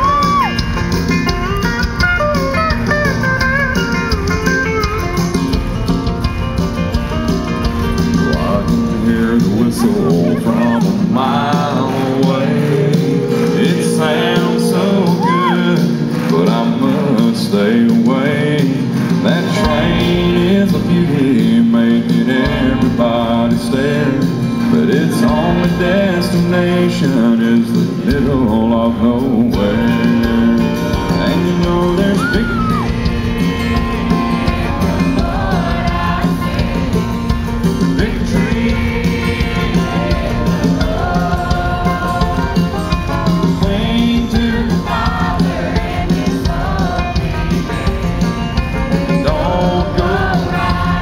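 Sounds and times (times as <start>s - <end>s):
live country band music: 0.0s - 51.0s
person singing: 8.2s - 37.0s, 37.7s - 51.0s.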